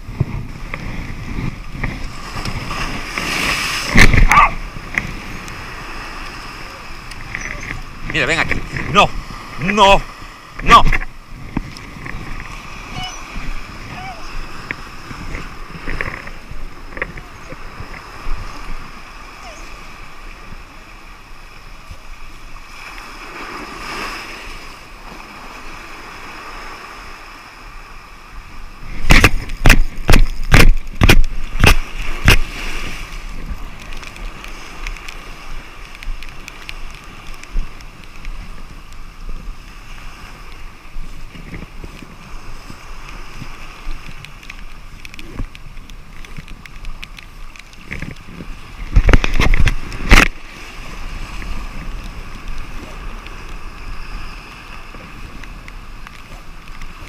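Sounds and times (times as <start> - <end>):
surf washing over rocks: 0.0 - 57.0
wind on microphone: 0.0 - 57.0.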